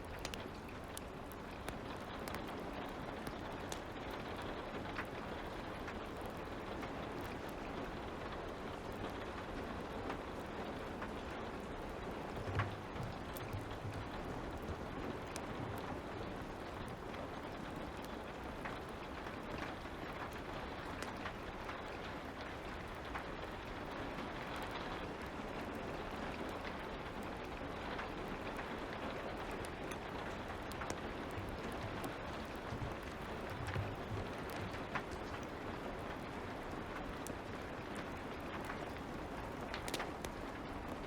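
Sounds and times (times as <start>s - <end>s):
light rain falling: 0.0s - 41.0s
wood fire crackling: 0.0s - 41.0s.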